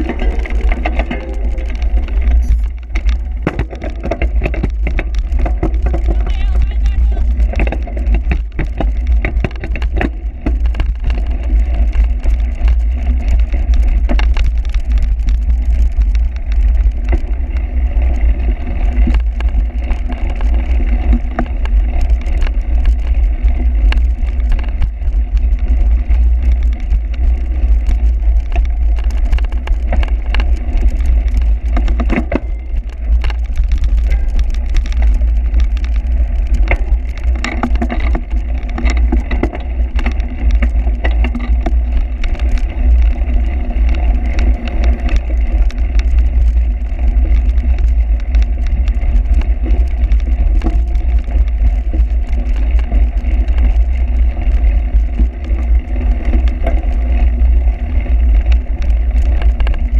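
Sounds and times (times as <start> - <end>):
bike clicking and rattling: 0.0 - 59.9.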